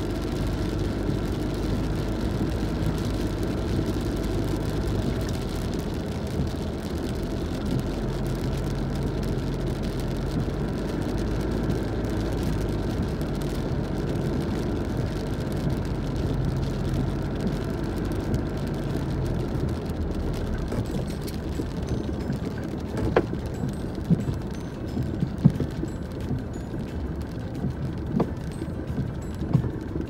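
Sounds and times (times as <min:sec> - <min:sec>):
car engine and tyre hum: 0:00.0 - 0:30.0.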